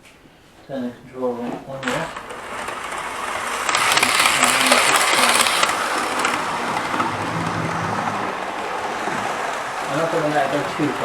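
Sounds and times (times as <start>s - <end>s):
model train rattling on track: 1.7s - 11.0s.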